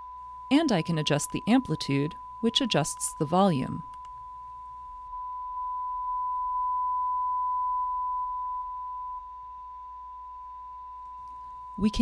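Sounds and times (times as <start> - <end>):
steady sine-wave tone: 0.0 - 12.0.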